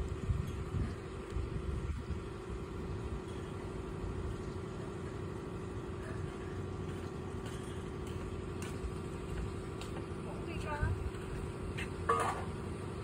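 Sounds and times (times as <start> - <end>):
steady motor hum: 0.0 - 13.0.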